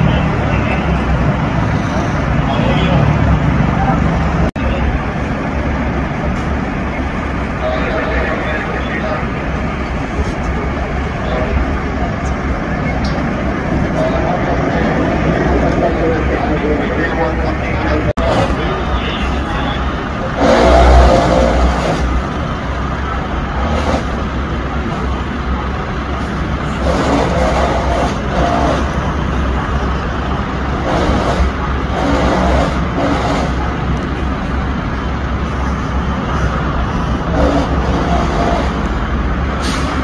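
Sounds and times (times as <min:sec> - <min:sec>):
fire truck engines rumbling: 0:00.0 - 0:40.0.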